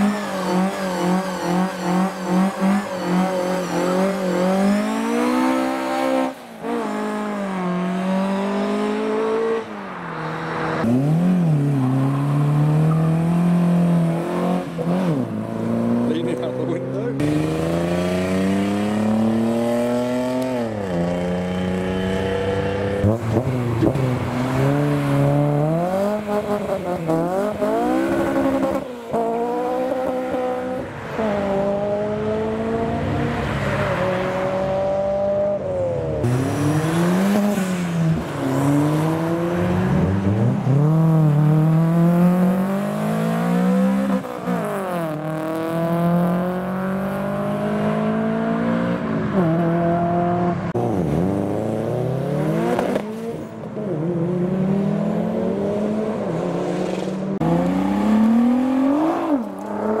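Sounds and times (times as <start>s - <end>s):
cars accelerating hard: 0.0s - 60.0s.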